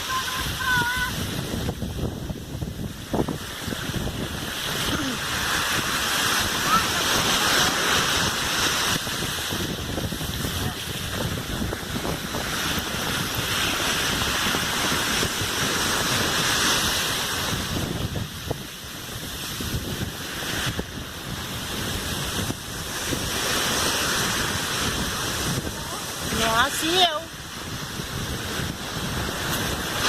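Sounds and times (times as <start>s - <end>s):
surf washing on a beach: 0.0s - 30.0s
wind buffeting microphone: 0.0s - 30.0s.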